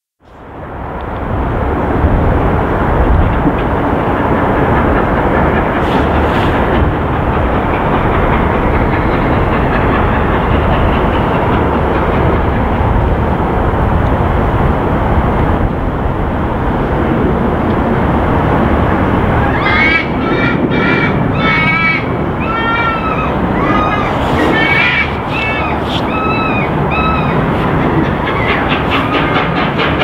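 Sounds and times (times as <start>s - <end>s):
train rushing rumble: 0.3s - 30.0s.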